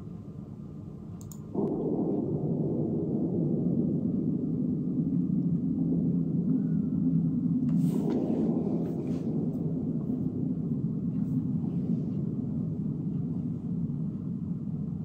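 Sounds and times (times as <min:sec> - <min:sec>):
slowed-down deep rumble: 0:00.0 - 0:15.0.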